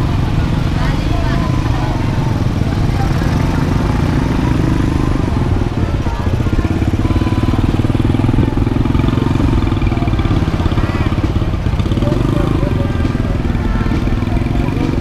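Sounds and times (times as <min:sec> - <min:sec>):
faint voices: 0:00.0 - 0:15.0
motorcycle engine running: 0:00.0 - 0:15.0.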